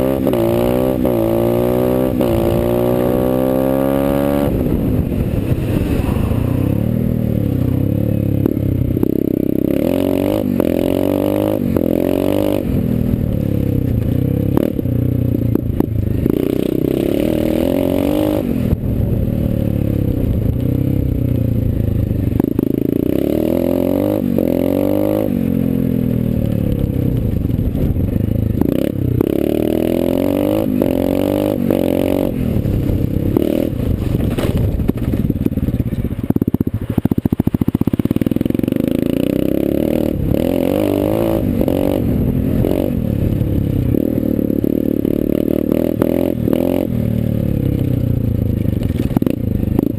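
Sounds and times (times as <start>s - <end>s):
dirt bike engine revving: 0.0s - 14.8s, 15.5s - 18.8s, 22.2s - 26.1s, 28.5s - 35.7s, 36.3s - 49.9s.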